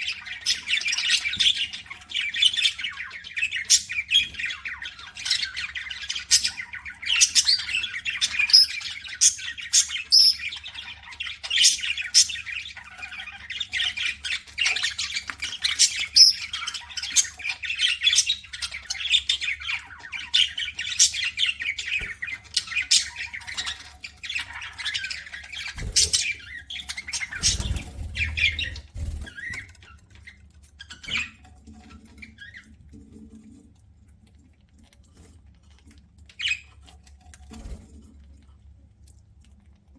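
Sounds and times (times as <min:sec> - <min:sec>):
budgerigars chattering and chirping: 0:00.0 - 0:32.8.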